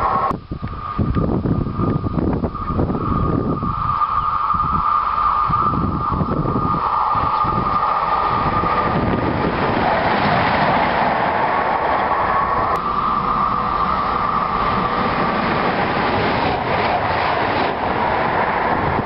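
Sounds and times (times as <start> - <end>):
high held tone: 0.0 - 9.7, 11.8 - 19.0
train rumble: 0.0 - 19.0.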